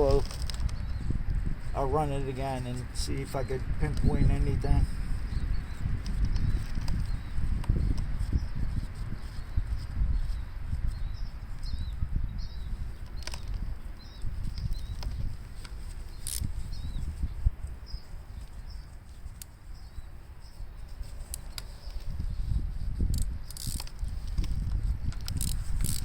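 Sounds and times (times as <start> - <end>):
small birds chirping: 0.0 - 22.7.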